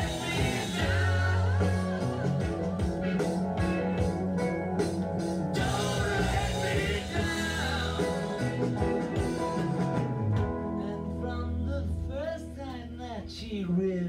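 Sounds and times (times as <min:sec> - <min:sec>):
rock and roll song: 0:00.0 - 0:14.0.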